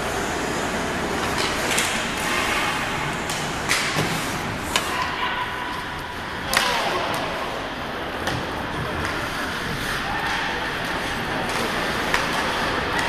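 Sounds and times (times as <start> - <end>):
hockey sticks and puck clacking: 1.2 - 13.0.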